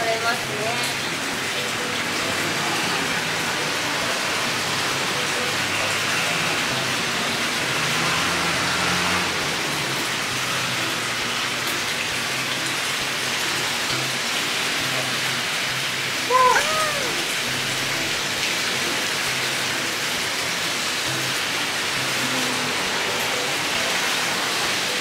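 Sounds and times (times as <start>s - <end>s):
water pouring into a bath: 0.0s - 25.0s.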